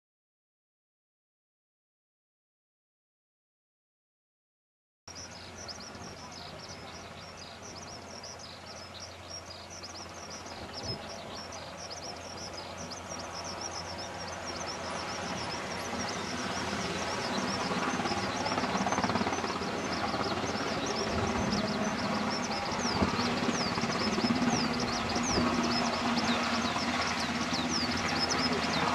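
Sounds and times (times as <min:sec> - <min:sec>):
birds chirping rapidly: 0:05.1 - 0:28.9
helicopter engines and rotor: 0:05.1 - 0:28.9.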